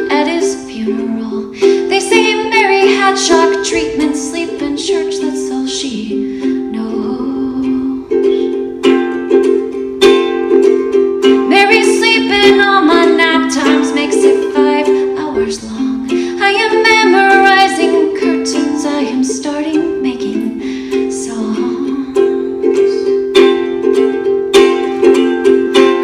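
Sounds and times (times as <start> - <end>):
ukulele strumming chords: 0.0 - 26.0.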